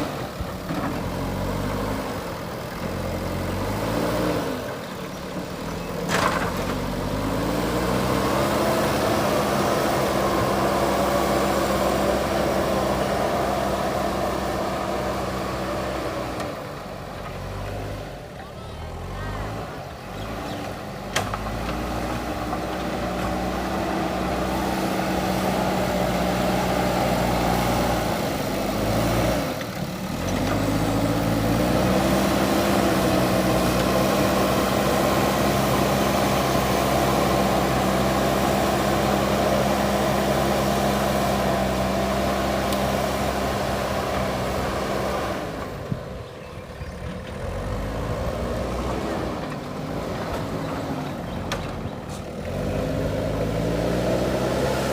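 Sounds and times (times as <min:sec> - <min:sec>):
diesel engine revving under load: 0:00.0 - 0:54.9.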